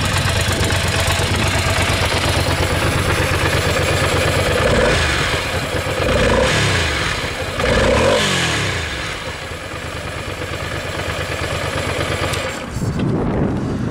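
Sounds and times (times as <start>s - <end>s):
motorcycle engine revving: 0.0s - 13.1s
motorcycle engine idling: 0.0s - 13.5s.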